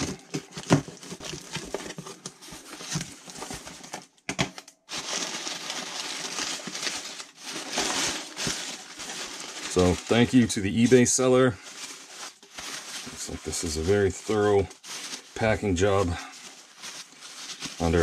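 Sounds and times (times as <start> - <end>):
crumpled paper rustling: 0.0 - 18.0
plastic wrap and tape crackling: 0.0 - 18.0.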